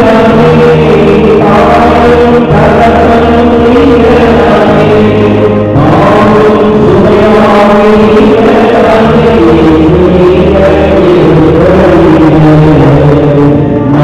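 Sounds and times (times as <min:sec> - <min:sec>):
man singing a chant: 0:00.0 - 0:14.0
sustained accompanying notes: 0:00.0 - 0:14.0.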